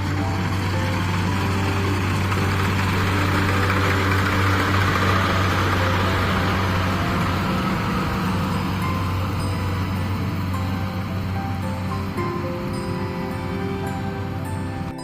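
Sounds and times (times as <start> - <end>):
machine rushing noise: 0.0 - 14.9
diesel engine humming: 0.0 - 15.0.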